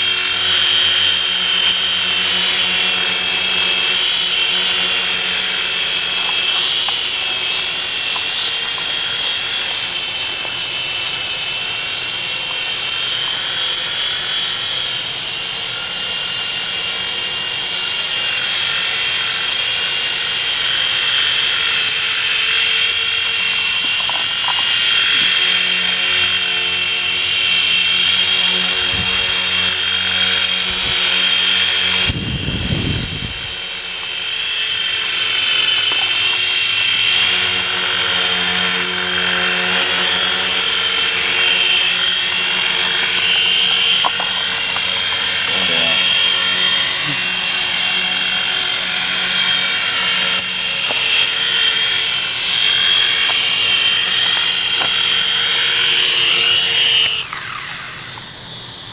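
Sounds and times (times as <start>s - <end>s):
rc helicopter rotors whining: 0.0s - 58.9s.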